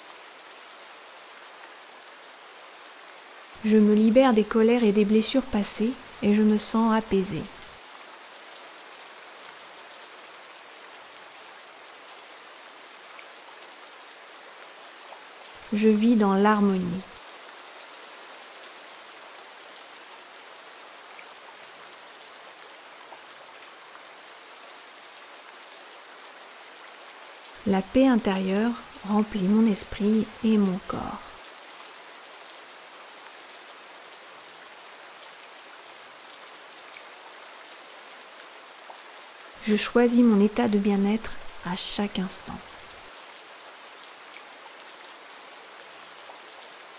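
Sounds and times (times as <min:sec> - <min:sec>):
rain falling in forest: 0:00.0 - 0:46.9.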